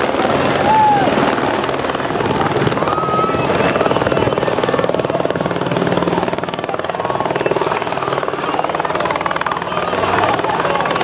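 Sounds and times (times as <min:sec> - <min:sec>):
helicopter engine: 0:00.0 - 0:11.0
helicopter rotor blades beating: 0:00.0 - 0:11.0.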